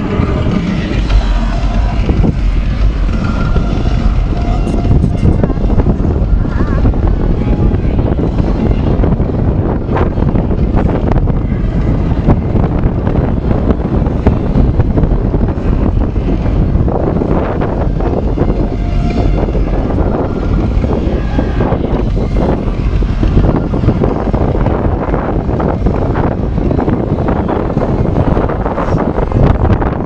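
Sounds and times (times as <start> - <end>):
boat engine running: 0.0 - 30.0
wind buffeting microphone: 0.0 - 30.0.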